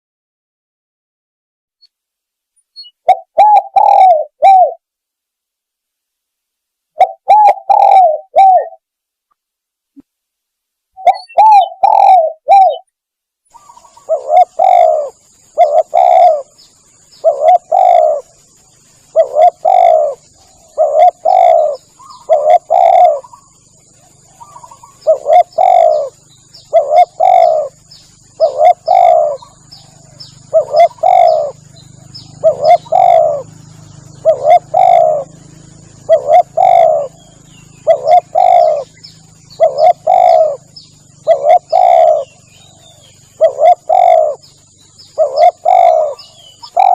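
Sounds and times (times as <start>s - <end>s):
faint high-pitched whine: 1.8s - 46.9s
dove cooing: 2.8s - 4.8s, 7.0s - 8.8s, 11.0s - 12.9s, 13.5s - 46.9s.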